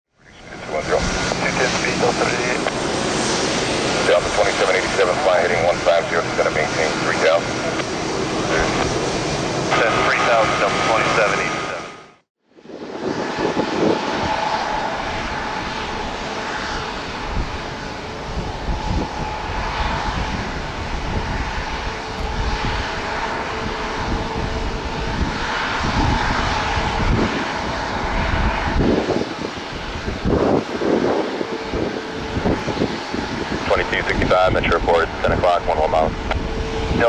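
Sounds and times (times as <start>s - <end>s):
jet engine rumble: 0.2s - 37.0s
jet engine whine: 0.2s - 37.0s.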